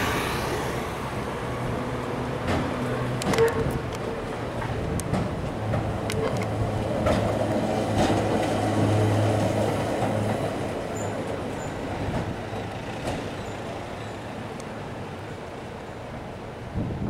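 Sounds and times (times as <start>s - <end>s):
electric tram motor hum: 0.0s - 17.0s.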